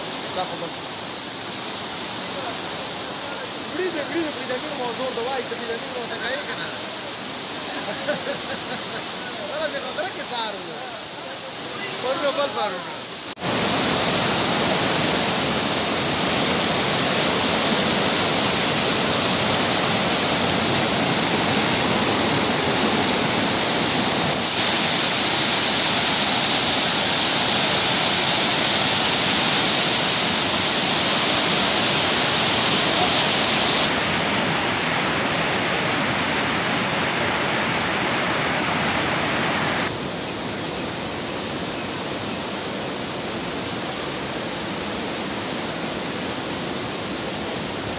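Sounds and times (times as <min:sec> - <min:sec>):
floodwater rushing: 0:00.0 - 0:47.9.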